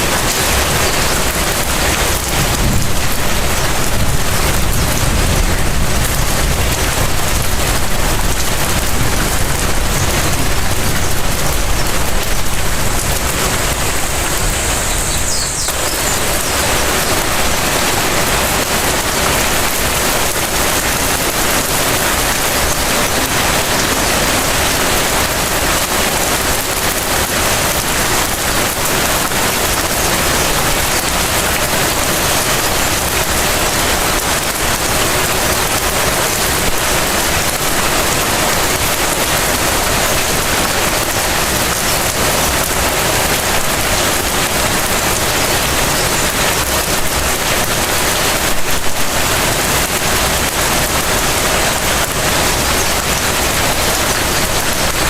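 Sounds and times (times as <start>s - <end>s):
light rain pattering: 0.0s - 55.0s.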